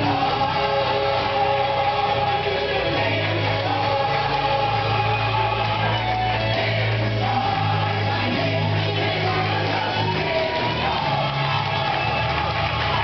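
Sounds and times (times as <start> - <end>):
gospel choir song over loudspeakers: 0.0 - 13.0.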